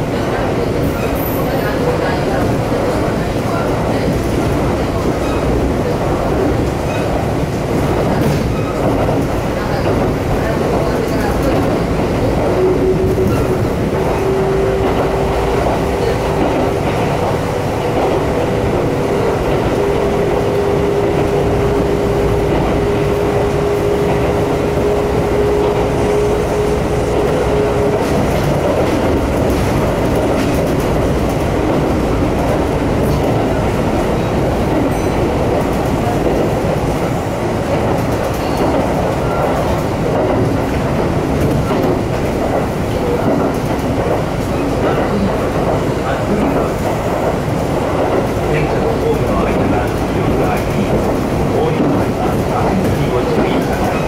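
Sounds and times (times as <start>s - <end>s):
train rumble: 0.0s - 54.0s
wheels clickety-clack: 0.1s - 54.0s.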